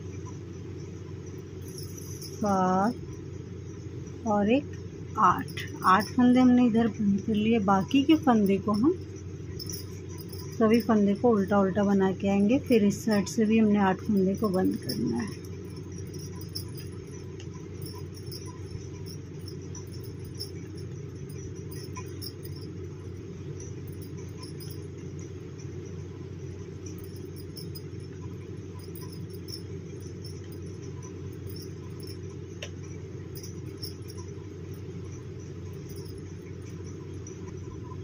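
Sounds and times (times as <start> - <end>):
low background hum: 0.0 - 38.0.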